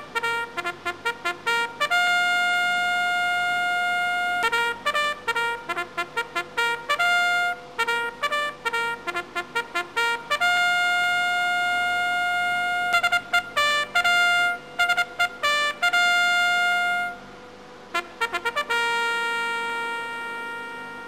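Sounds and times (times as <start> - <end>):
brass-like staccato melody: 0.0 - 17.3, 17.9 - 21.0.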